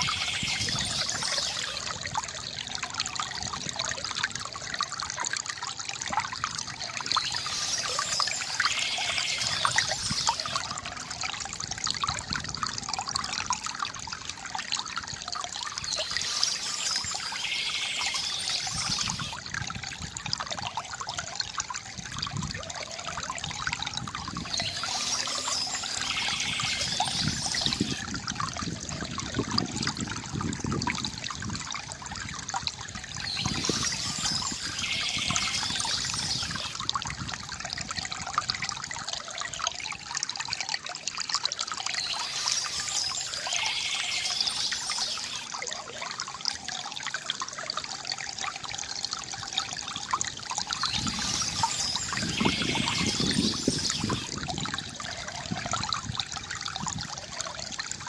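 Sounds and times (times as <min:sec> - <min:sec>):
water trickling from fountain spout: 0:00.0 - 0:58.0.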